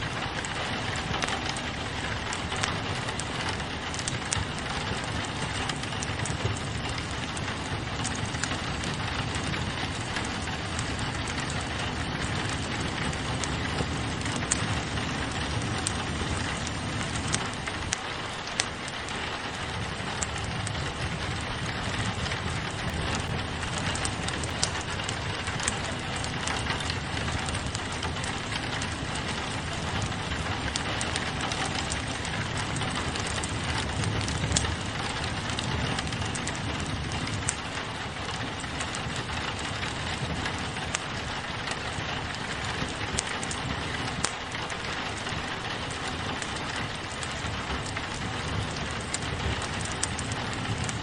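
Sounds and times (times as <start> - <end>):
fireplace crackling: 0.0 - 51.0
low uneven rumble: 0.0 - 51.0
rain on a window: 0.0 - 51.0.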